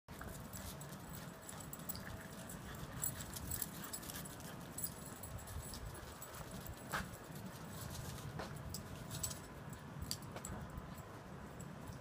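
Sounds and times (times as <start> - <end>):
paw clicks and collar jingles: 0.1 - 12.0.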